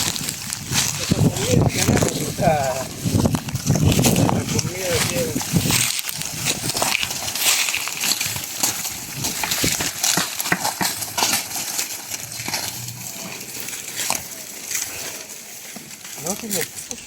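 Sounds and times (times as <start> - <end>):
cows crunching dry stalks: 0.0 - 17.0.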